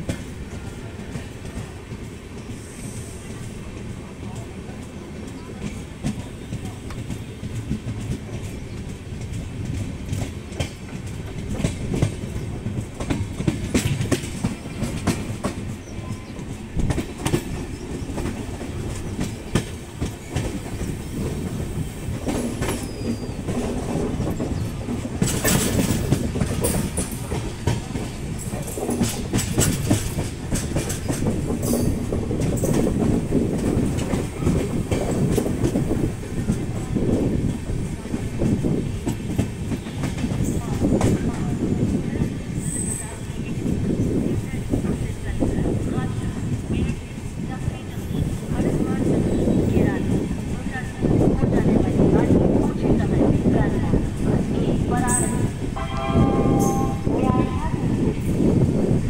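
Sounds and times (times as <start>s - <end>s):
train wheels rumbling: 0.0s - 59.0s
wheels clickety-clack over joints: 0.0s - 59.0s.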